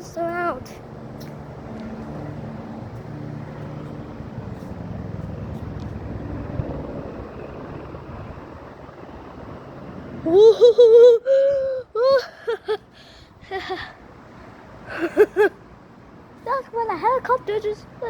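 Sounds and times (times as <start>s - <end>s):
helicopter rotor drone: 0.0s - 18.0s.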